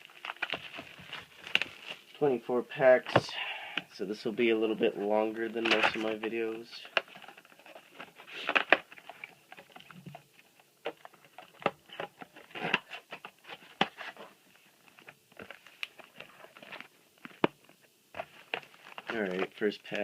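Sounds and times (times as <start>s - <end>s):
foil wrappers crinkling: 0.0s - 2.2s, 5.0s - 20.0s.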